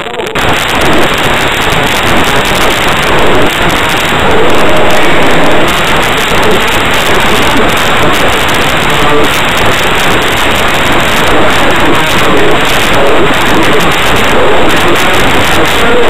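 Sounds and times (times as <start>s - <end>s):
faint voice: 0.0s - 16.0s
static hiss: 0.0s - 16.0s.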